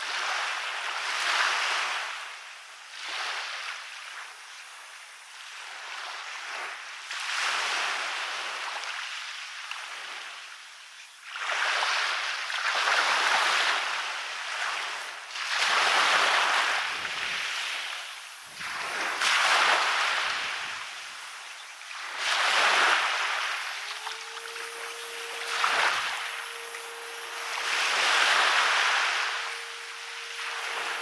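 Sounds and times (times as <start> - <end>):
waves breaking on a beach: 0.0 - 31.0.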